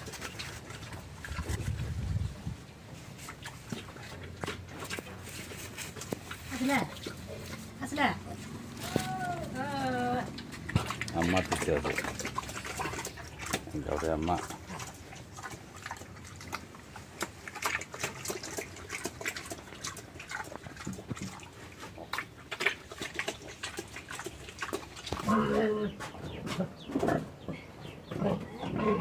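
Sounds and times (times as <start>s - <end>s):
pig chomping and slurping: 0.0s - 2.3s, 2.9s - 8.8s, 9.5s - 27.4s.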